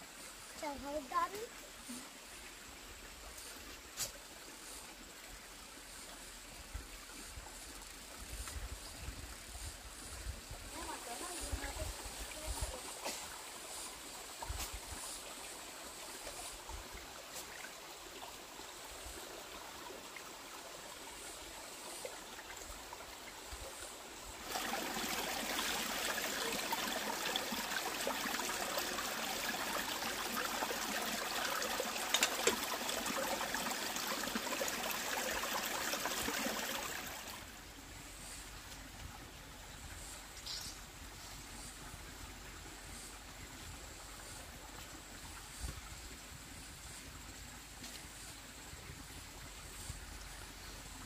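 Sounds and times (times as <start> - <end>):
stream trickling over stones: 0.0 - 51.0.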